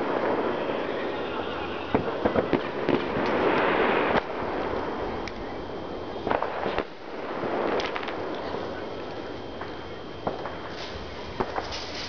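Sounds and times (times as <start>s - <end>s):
firecracker cracks: 0.0s - 4.4s, 6.3s - 12.0s
fireworks crackling hiss: 0.0s - 12.0s.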